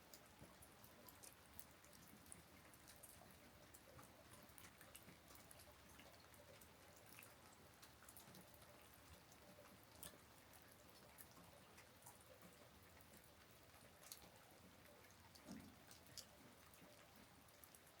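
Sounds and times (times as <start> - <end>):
light rain dripping: 0.0 - 18.0.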